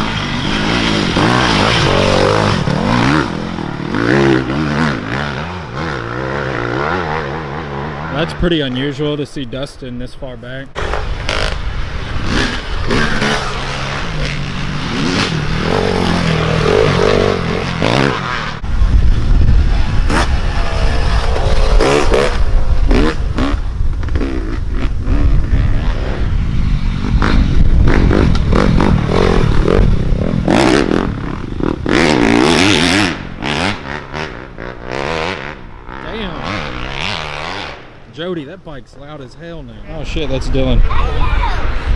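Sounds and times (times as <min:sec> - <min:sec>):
dirt bike engines revving: 0:00.0 - 0:41.9.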